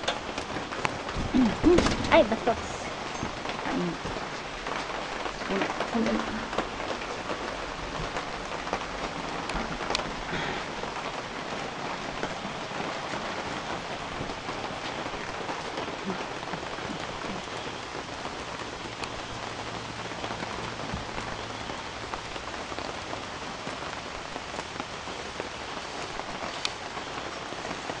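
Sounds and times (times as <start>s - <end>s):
raindrop ticks: 0.0s - 28.0s
steady rain hiss: 0.0s - 28.0s.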